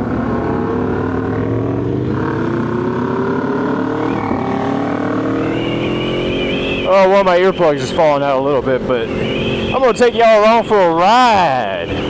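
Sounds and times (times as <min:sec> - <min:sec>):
motorcycle engine revs climbing: 0:00.0 - 0:12.0.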